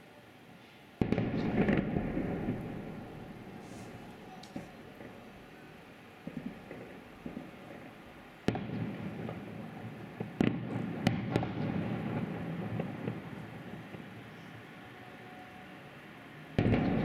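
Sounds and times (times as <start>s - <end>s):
distant fireworks bursting: 1.0s - 15.5s, 16.5s - 17.0s.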